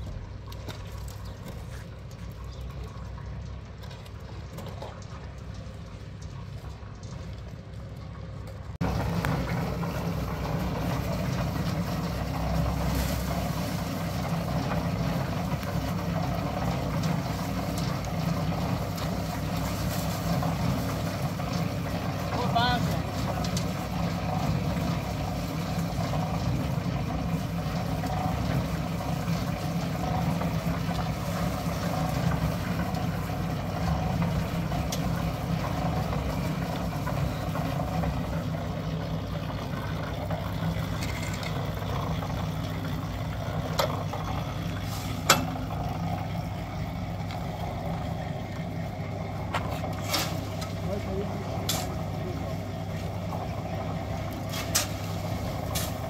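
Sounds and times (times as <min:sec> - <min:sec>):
concrete mixer humming: 0:00.0 - 0:56.0.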